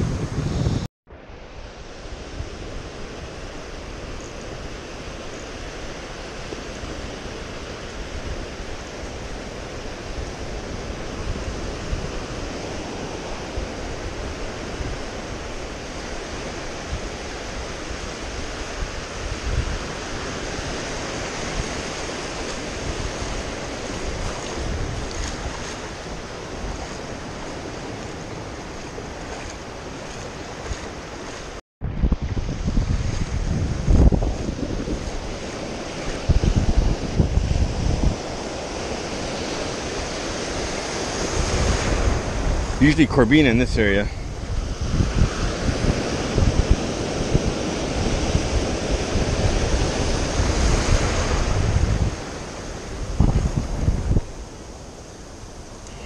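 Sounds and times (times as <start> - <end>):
ocean surf washing in: 0.0 - 56.0
wind rumbling on microphone: 0.0 - 56.0.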